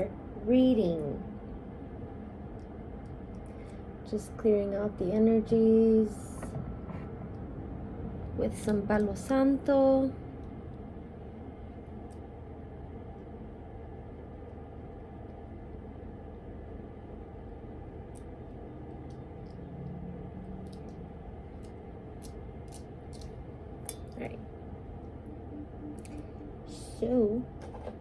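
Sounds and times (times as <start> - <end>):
low room hiss and hum: 0.0 - 28.0.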